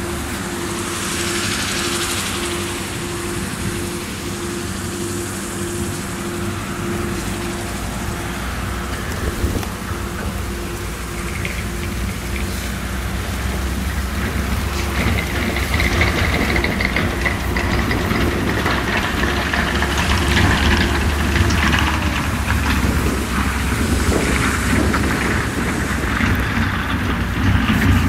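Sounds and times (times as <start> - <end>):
combine harvester engine drone: 0.0 - 28.0
deep rumble: 0.0 - 28.0
grain pouring hiss: 0.0 - 28.0.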